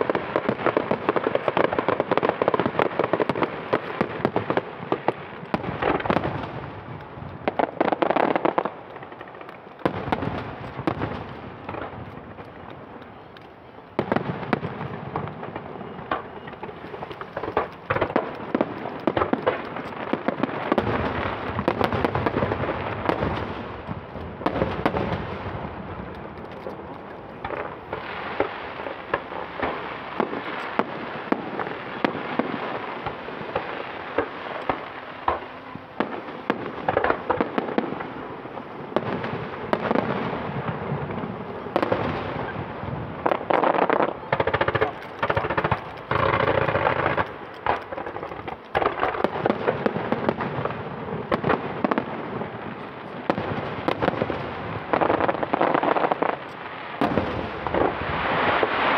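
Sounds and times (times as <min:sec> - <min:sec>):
fireworks bangs and pops: 0:00.0 - 0:58.9.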